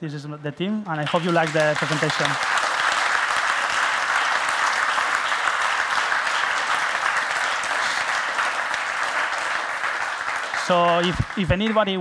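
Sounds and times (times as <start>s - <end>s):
audience applauding: 1.0s - 12.0s.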